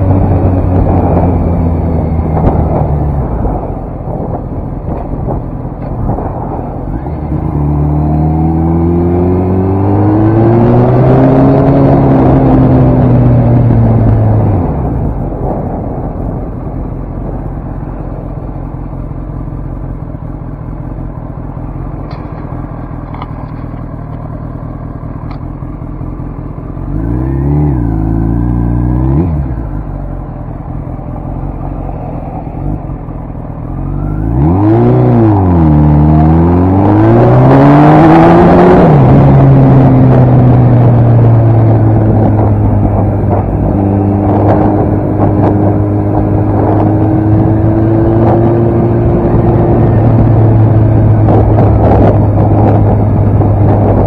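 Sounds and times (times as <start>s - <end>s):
motorcycle engine revving: 0.0s - 16.3s, 17.0s - 54.0s.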